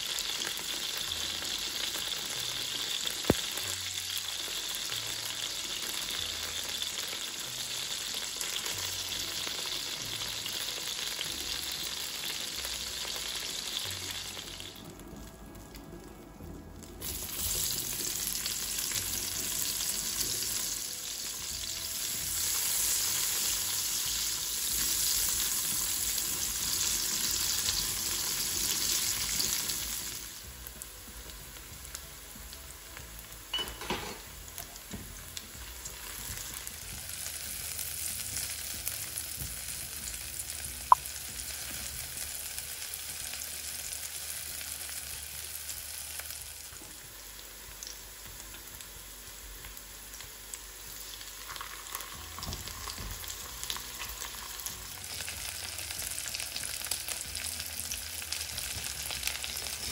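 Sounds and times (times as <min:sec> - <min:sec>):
chicken sizzling in hot oil: 0:00.0 - 0:16.2, 0:16.8 - 0:59.9
onions sizzling: 0:00.0 - 0:59.9.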